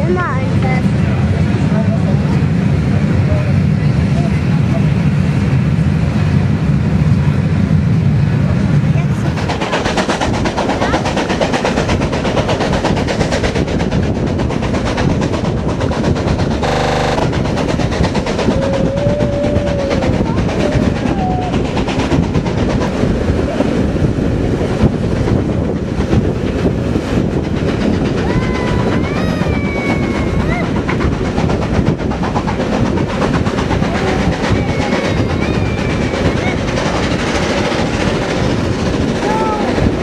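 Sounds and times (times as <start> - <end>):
train rumbling on track: 0.0 - 40.0.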